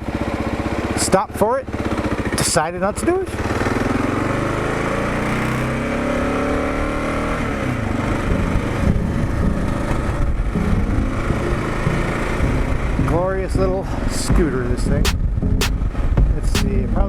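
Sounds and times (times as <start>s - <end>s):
motorcycle engine accelerating: 0.0s - 16.8s.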